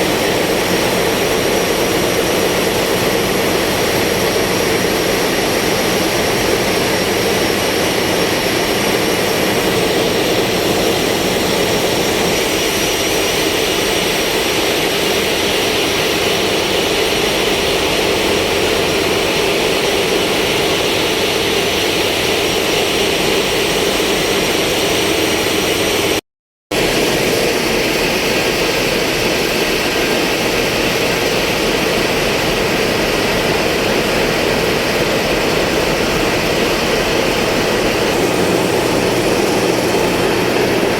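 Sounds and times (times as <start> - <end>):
ship engine machinery roaring: 0.0 - 26.2, 26.8 - 40.9.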